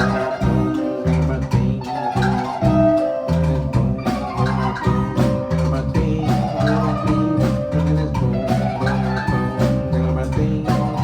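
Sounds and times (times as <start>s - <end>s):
bass line: 0.0s - 11.0s
drum hits: 0.0s - 11.0s
guitar: 0.0s - 11.0s.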